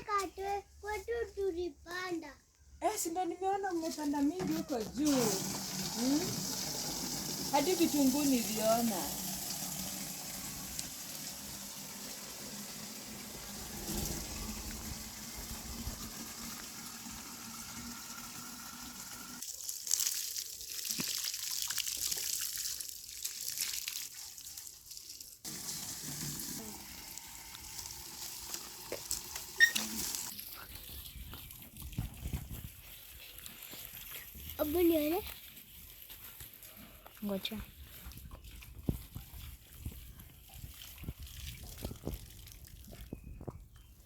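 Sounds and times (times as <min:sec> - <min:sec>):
water pouring and splashing: 0:04.7 - 0:36.1, 0:37.9 - 0:43.6.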